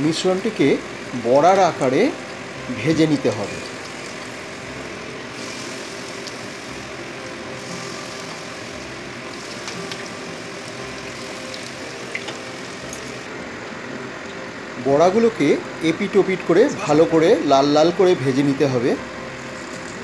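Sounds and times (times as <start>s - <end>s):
oil sizzling while deep-frying: 0.0s - 20.0s.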